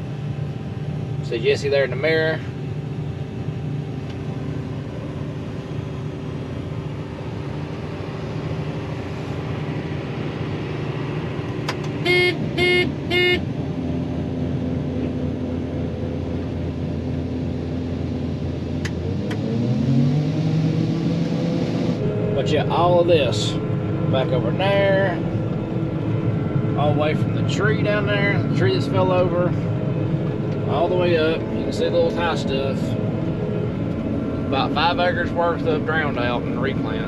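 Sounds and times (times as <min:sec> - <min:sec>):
combine engine running: 0:00.0 - 0:19.7, 0:20.6 - 0:37.0.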